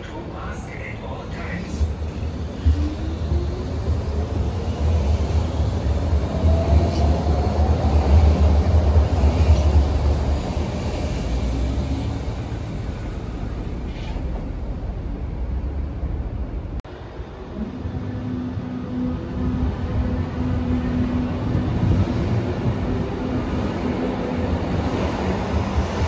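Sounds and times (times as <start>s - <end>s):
train cars rumbling: 0.0s - 26.0s.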